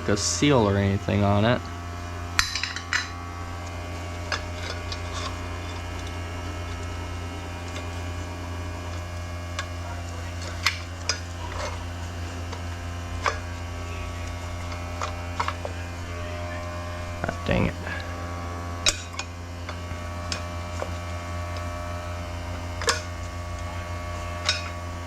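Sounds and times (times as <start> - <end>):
air compressor humming: 0.0 - 25.0.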